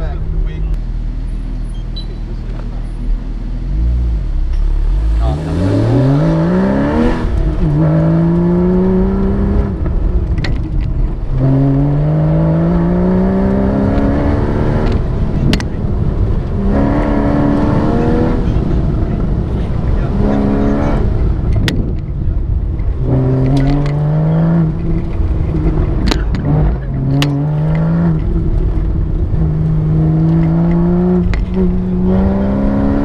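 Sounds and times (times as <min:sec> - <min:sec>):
car engine accelerating hard: 0:00.0 - 0:33.0.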